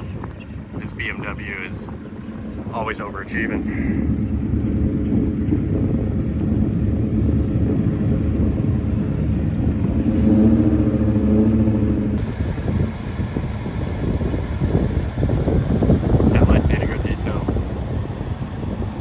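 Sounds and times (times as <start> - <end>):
car engine running at low speed: 0.0 - 19.0.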